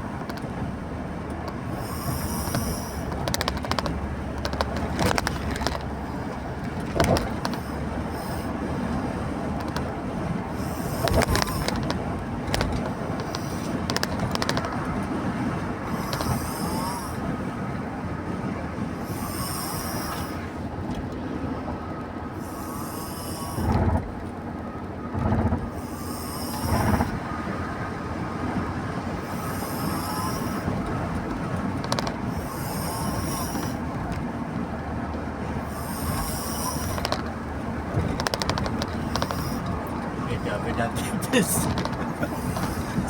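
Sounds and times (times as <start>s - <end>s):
traffic rumble: 0.0s - 43.0s.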